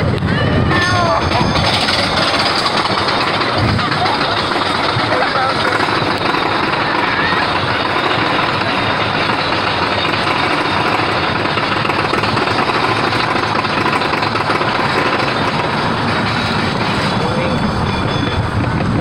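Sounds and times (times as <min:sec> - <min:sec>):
roller coaster wheels rattling: 0:00.0 - 0:19.0.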